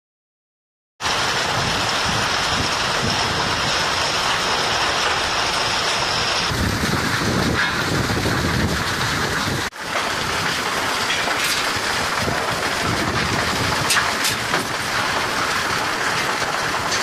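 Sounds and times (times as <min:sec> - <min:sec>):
rocks rattling over steel feeder: 0:02.6 - 0:17.0.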